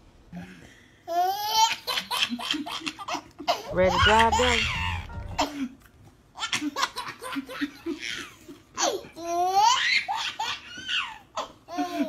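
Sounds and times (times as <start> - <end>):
baby laughing: 1.1 - 5.7, 6.4 - 12.0.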